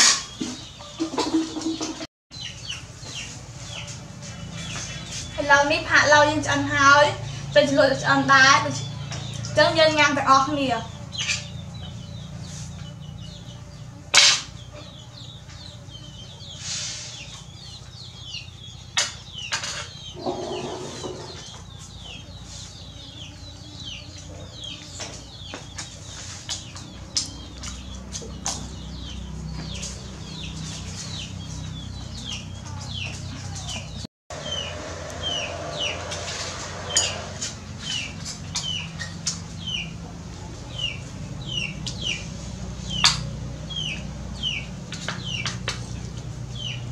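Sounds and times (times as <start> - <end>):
chicks peeping: 0.0 - 5.5, 8.6 - 46.9.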